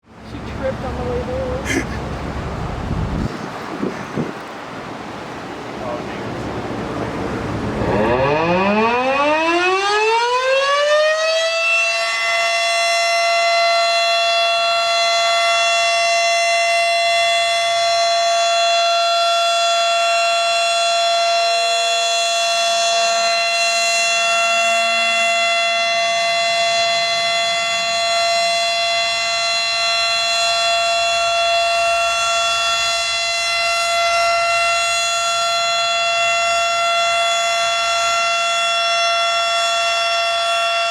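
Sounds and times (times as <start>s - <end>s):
warning siren winding up: 7.8s - 40.9s.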